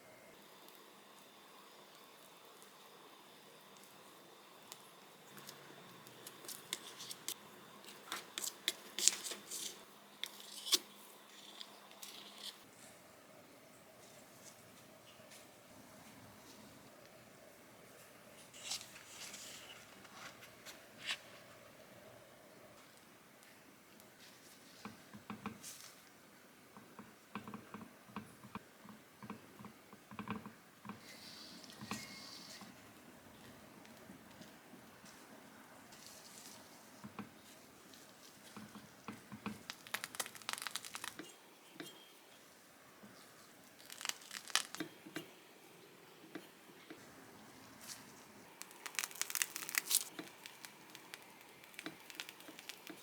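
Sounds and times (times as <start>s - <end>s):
faint hiss: 0.0s - 53.0s.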